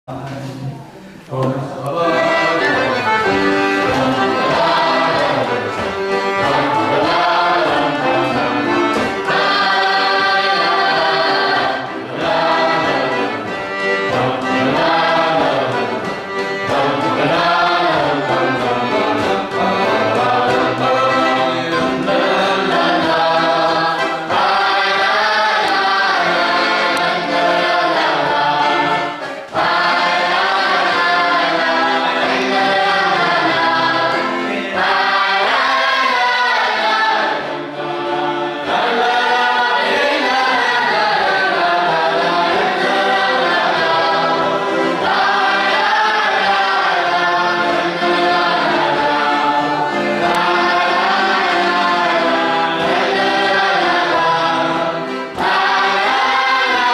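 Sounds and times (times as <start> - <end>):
accordion: 0.1 - 56.9
boys' choir singing: 0.1 - 56.9.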